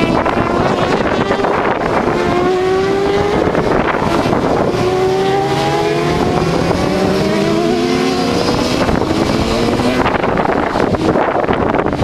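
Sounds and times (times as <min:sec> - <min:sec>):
motorcycle engines revving past: 0:00.0 - 0:12.0.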